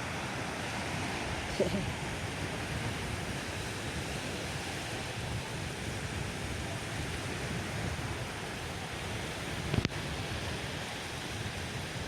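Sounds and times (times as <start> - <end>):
sea surf rushing: 0.0 - 12.0
wind buffeting microphone: 0.0 - 12.0.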